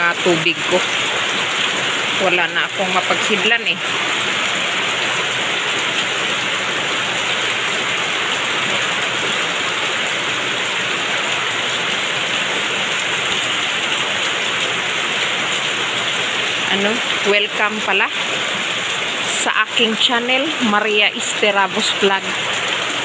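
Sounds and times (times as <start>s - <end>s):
heavy rain splashing: 0.0s - 23.0s.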